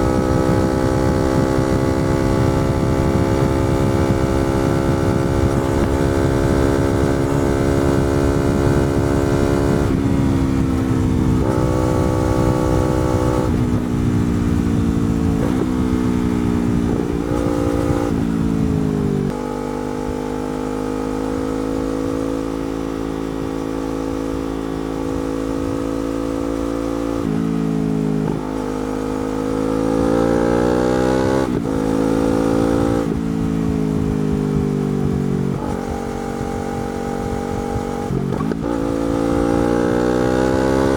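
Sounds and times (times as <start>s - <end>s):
motorcycle engine revving and shifting: 0.0s - 40.9s.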